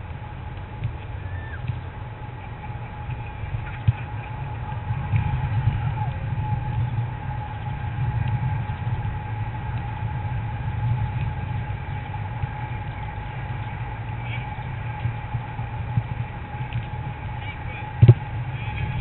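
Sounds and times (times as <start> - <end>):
faint constant whine: 0.0 - 19.0
steady low rumble: 0.0 - 19.0.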